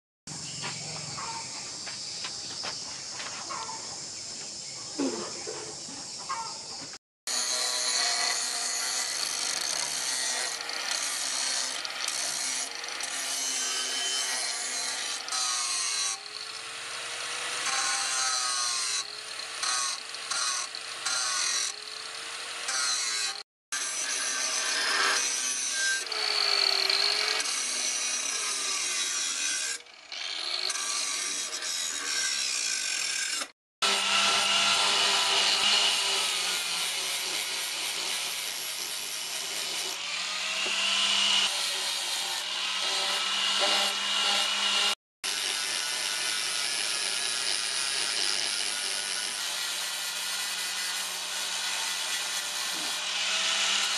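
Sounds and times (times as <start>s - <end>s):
angle grinder grinding steel: 7.3s - 53.9s.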